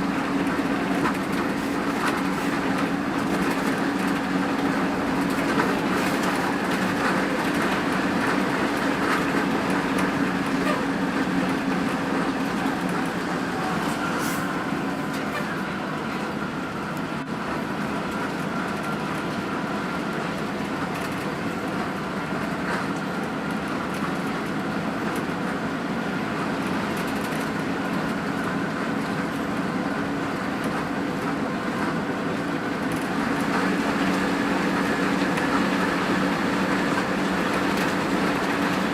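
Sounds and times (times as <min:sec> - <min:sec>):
diesel engine droning: 0:00.0 - 0:38.9
engine whine: 0:00.0 - 0:38.9.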